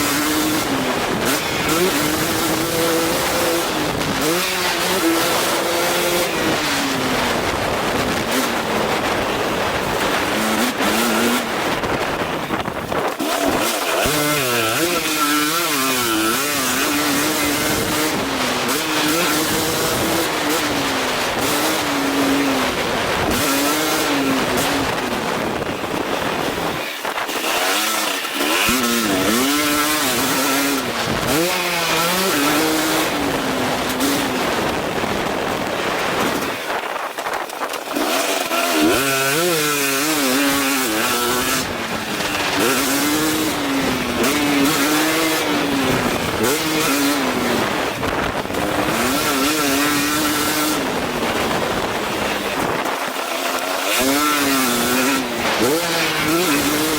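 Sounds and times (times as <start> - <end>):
motocross bike engine revving: 0.0 - 56.9
steady rushing noise: 0.0 - 56.9.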